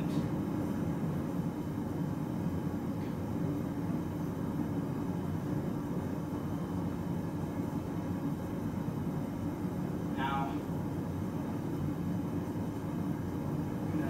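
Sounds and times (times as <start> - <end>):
forge burner rushing: 0.0 - 14.0.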